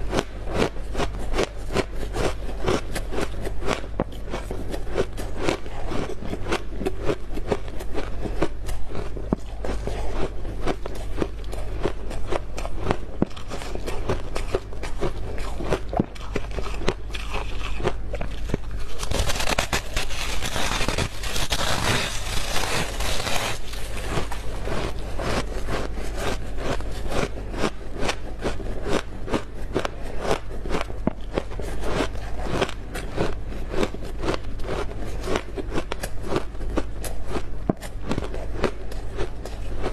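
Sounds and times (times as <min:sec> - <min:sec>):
frost being chewed crunching: 0:00.0 - 0:39.9.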